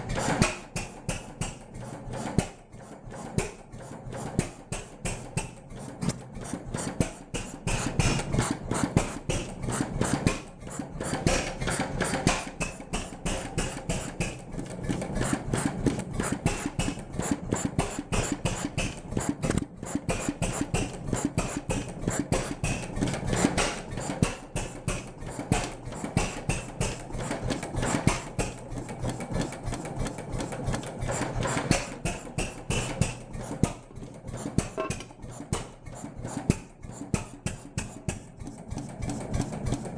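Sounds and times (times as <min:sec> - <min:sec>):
stationary engine clattering: 0:00.0 - 0:39.9.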